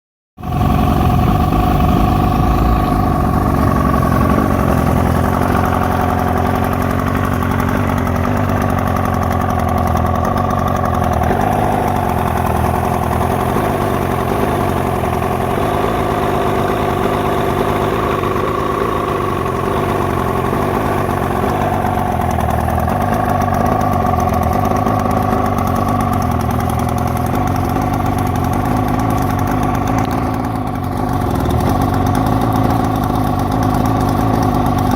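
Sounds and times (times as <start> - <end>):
outboard motor idling roughly: 0.4 - 34.9.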